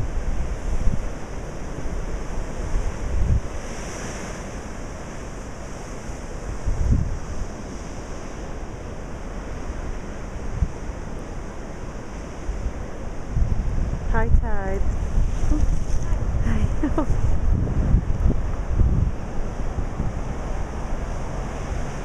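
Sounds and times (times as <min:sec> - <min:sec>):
heavy waves breaking: 0:00.0 - 0:22.0
wind buffeting microphone: 0:00.0 - 0:22.0.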